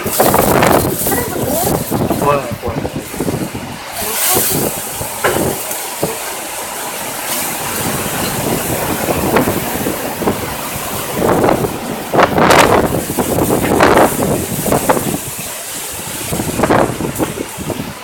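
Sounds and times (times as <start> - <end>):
strong wind gusting: 0.0 - 18.0
wind buffeting microphone: 0.0 - 18.0.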